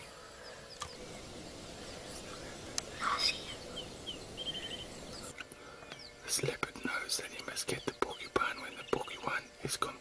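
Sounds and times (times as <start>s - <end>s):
birds calling: 0.0s - 10.0s
outdoor background noise: 0.0s - 10.0s.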